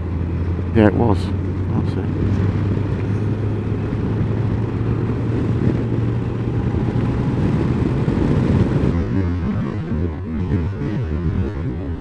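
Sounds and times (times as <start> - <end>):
motorcycle engine humming: 0.0 - 12.0
wind noise: 0.0 - 12.0.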